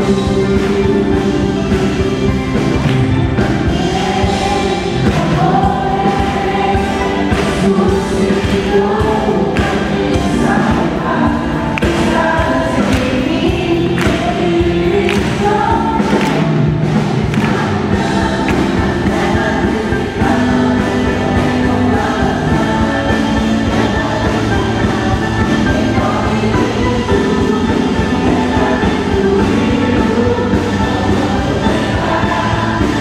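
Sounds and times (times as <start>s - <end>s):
band with steady beat: 0.0s - 33.0s
group singing gospel: 0.0s - 33.0s.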